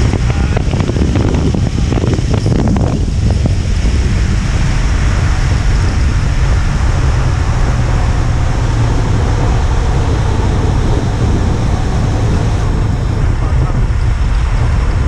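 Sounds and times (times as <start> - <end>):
motorcycle engine at high speed: 0.0 - 15.0
wind on microphone: 0.0 - 15.0.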